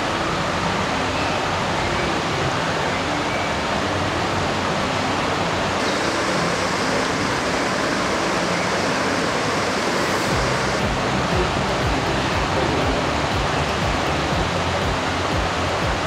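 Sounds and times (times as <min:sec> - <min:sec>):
river water flowing over stones: 0:00.0 - 0:16.0.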